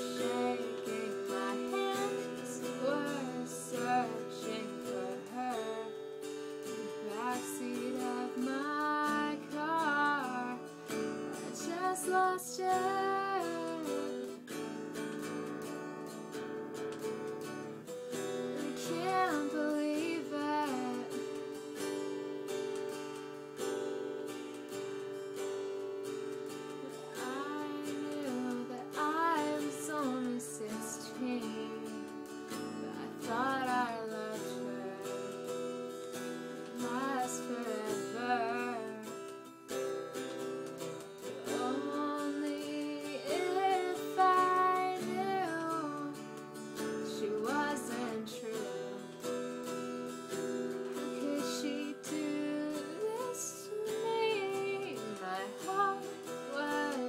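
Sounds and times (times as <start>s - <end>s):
woman singing: 0.0s - 23.0s, 24.8s - 57.0s
strummed acoustic guitar: 0.0s - 57.0s.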